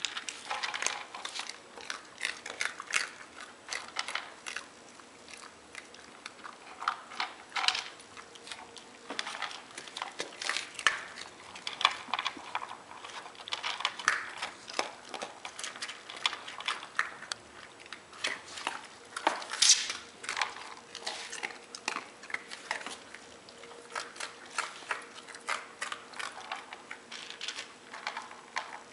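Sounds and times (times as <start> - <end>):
dogs crunching dry kibble: 0.0 - 28.9.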